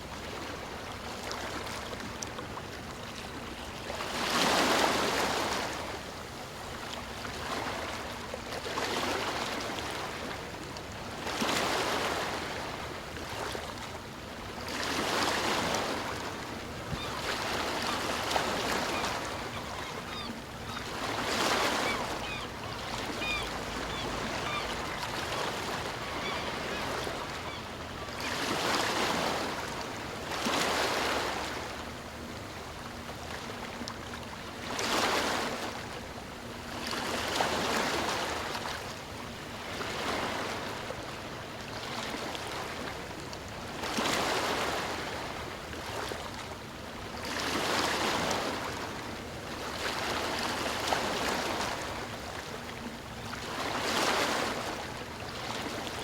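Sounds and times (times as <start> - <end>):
sea waves on shore: 0.0 - 56.0.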